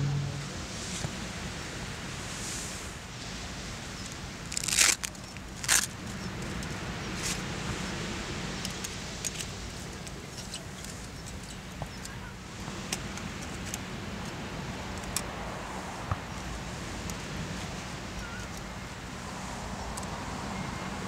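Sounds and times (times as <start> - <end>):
low outdoor rumble and hiss: 0.0 - 21.0.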